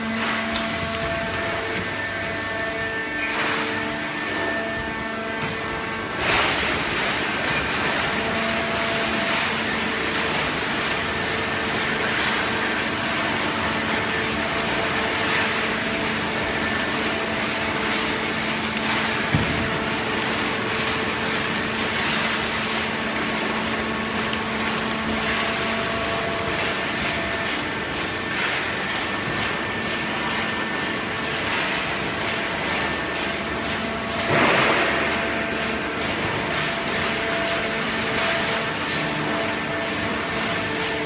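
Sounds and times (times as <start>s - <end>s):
baling press machine noise: 0.0s - 41.0s
low machine hum: 0.0s - 41.0s.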